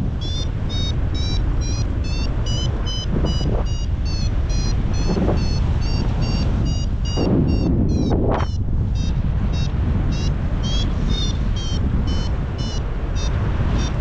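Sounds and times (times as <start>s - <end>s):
variometer beeping: 0.0s - 14.0s
wind buffeting microphone: 0.0s - 14.0s.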